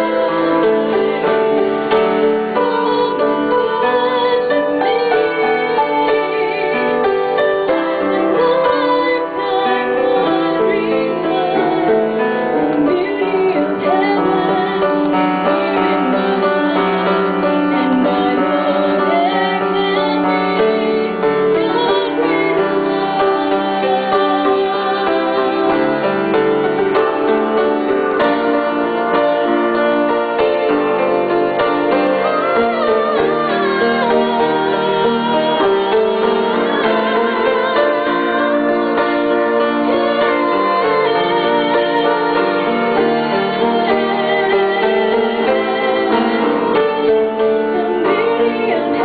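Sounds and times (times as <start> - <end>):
people singing with vibrato: 0.0 - 49.0
piano accompaniment: 0.0 - 49.0.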